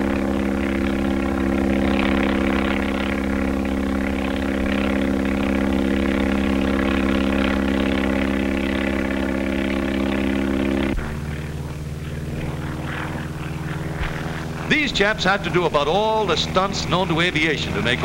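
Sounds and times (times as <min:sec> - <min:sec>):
propeller engine droning: 0:00.0 - 0:18.0.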